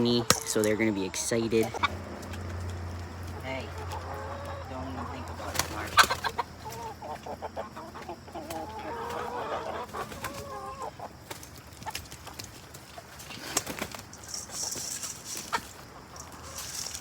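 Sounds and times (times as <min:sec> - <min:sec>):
chickens clucking excitedly: 0:00.0 - 0:17.0.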